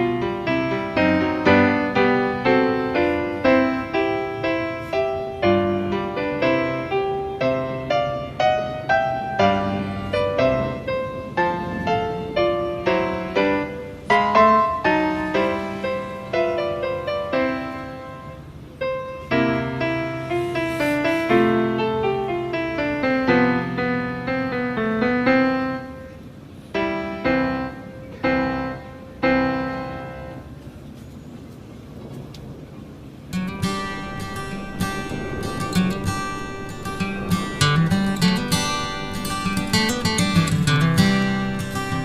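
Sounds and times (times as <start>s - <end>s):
piano music: 0.0s - 31.0s, 33.1s - 42.0s.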